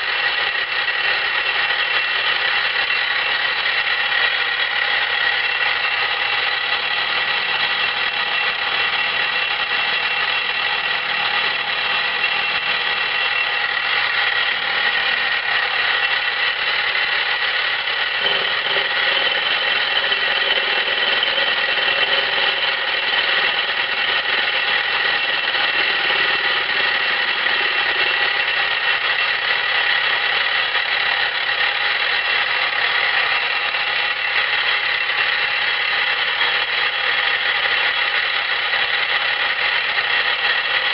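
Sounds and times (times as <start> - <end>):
endmill cutting steel: 0.0 - 40.9
milling machine whine: 0.0 - 40.9.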